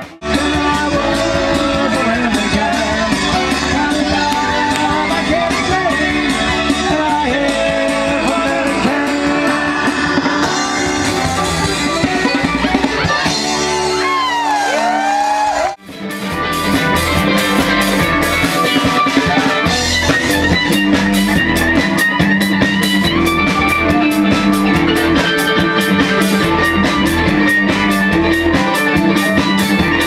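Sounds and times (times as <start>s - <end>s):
steady drum beat: 0.0s - 14.8s, 15.8s - 30.0s
live band playing upbeat tune: 0.0s - 30.0s.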